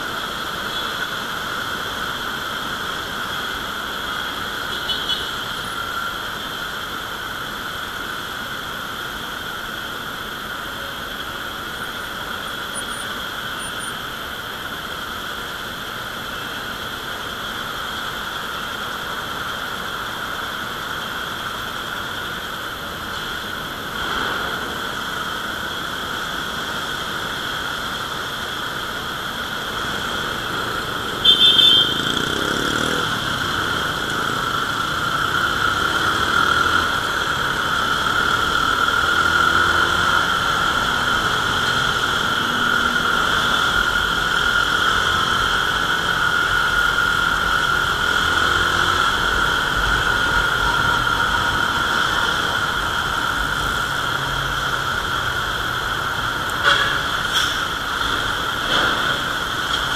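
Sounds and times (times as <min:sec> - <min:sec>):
motorcycle engine and road noise: 0:00.0 - 0:59.9.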